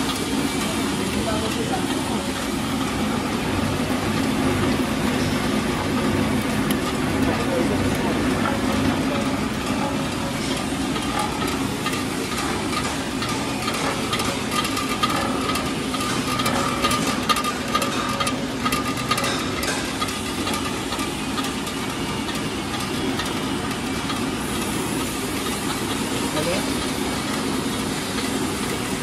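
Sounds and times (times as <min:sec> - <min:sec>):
oil press motor humming: 0:00.0 - 0:29.0.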